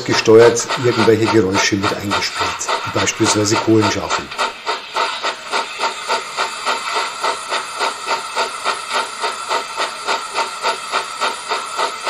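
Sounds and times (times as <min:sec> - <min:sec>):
steam locomotive chuffs on small speaker: 0:00.0 - 0:12.0.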